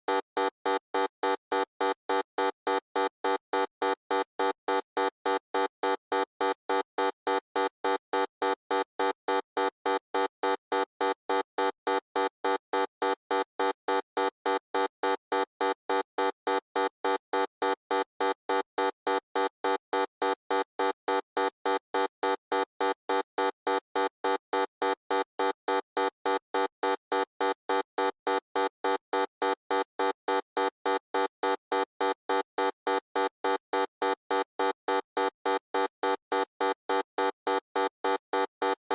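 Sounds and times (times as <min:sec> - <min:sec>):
electronic buzzer beeping: 0:00.1 - 0:38.8.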